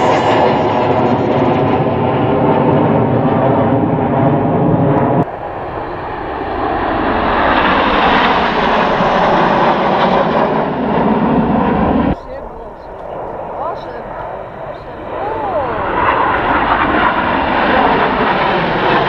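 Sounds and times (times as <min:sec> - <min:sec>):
jet formation flying over: 0:00.0 - 0:19.0
jet passing with falling whine: 0:00.0 - 0:19.0.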